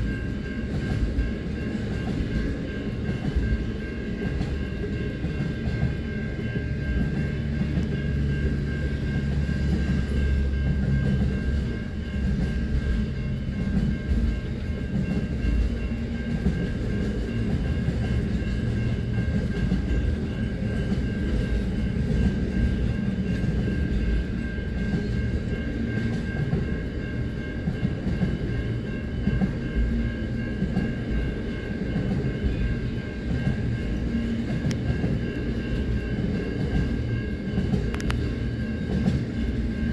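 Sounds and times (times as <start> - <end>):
high ringing warning bell: 0.0 - 39.9
train wheels rumbling on rail: 0.0 - 39.9.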